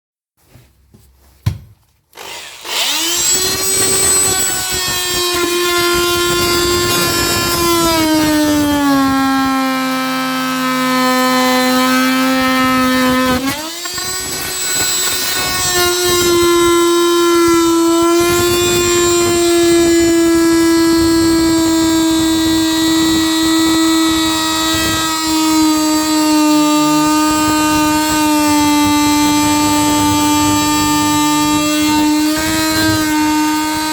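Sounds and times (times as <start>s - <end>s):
power tool motor whining: 2.1s - 33.9s.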